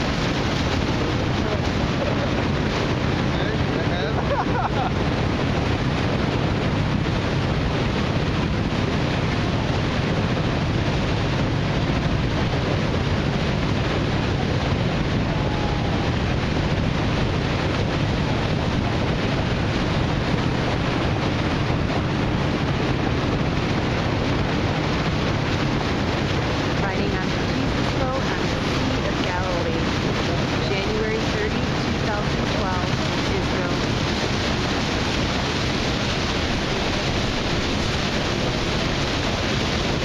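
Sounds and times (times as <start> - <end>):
low even rumble: 0.0 - 40.0
water noise: 0.0 - 40.0
wind on microphone: 0.0 - 40.0.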